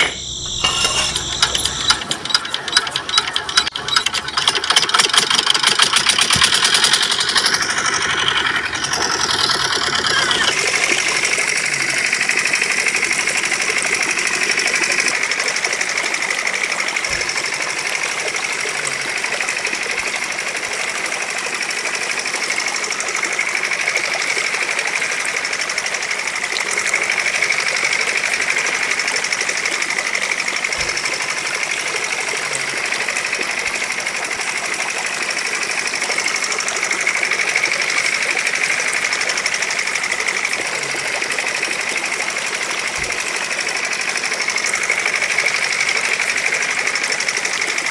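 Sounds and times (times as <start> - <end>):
small motor running: 0.0 - 47.9.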